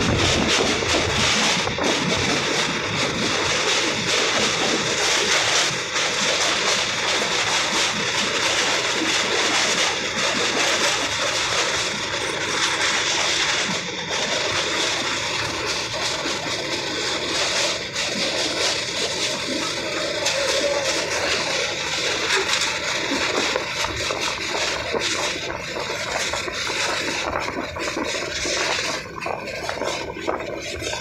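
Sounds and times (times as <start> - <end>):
train crossing steel bridge: 0.0 - 31.0.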